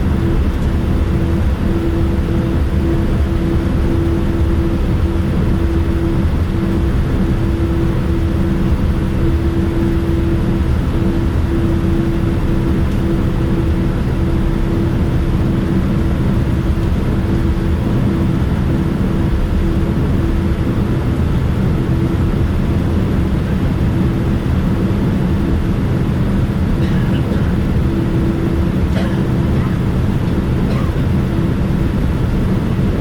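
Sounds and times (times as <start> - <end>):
airliner cabin engine rumble: 0.0 - 33.0
constant low hum: 0.0 - 33.0.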